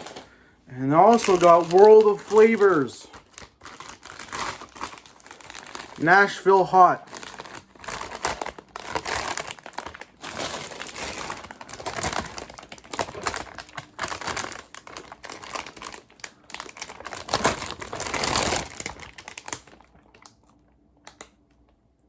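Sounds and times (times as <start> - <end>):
chip bags rustling: 0.0 - 21.2.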